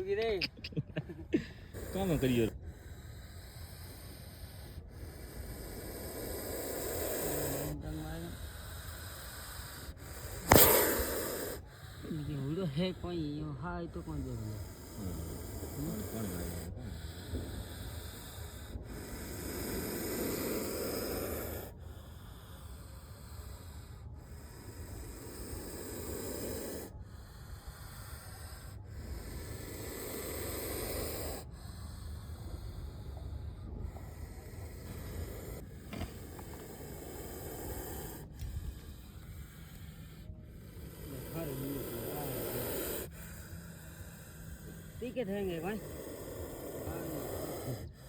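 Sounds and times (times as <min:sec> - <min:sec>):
snake hissing: 0:01.6 - 0:48.0.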